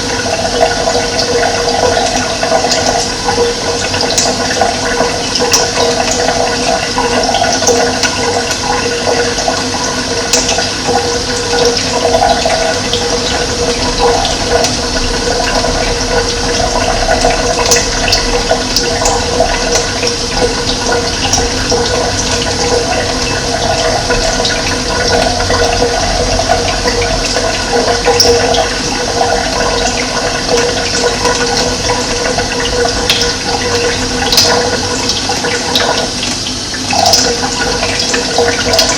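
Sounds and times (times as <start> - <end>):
running water rushing and gurgling: 0.0 - 38.9.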